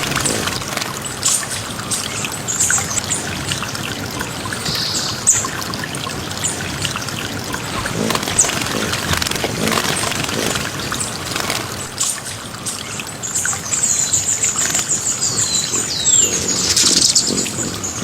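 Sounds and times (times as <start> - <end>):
bird trilling and chattering: 0.0 - 18.0
water trickling: 0.0 - 18.0.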